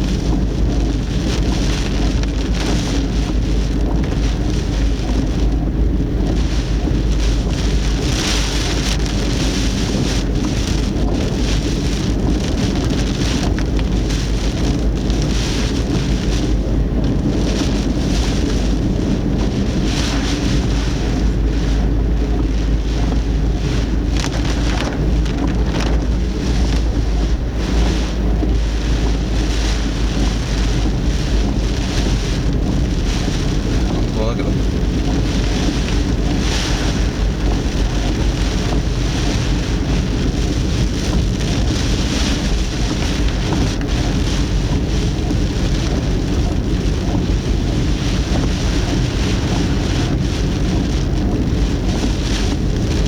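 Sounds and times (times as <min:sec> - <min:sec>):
constant low rumble: 0:00.0 - 0:53.0
heavy rain and wind on a car: 0:00.0 - 0:53.0.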